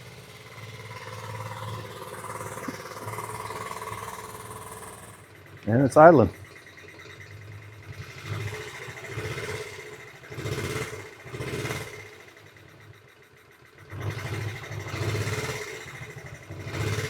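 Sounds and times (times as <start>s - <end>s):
small motorcycle engine idling: 0.0s - 17.0s.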